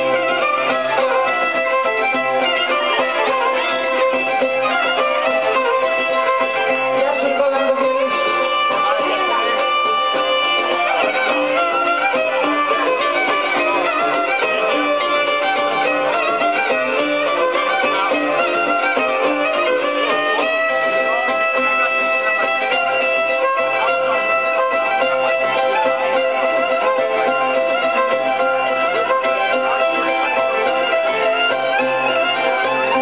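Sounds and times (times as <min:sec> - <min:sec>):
plucked strings: 0:00.0 - 0:33.0
violin folk dance music: 0:00.0 - 0:33.0.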